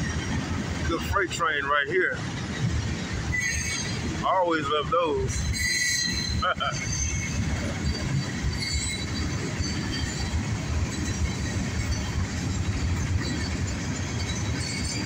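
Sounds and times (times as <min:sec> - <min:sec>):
freight train wheels rumbling: 0:00.0 - 0:15.0
wheels squealing: 0:00.0 - 0:15.0.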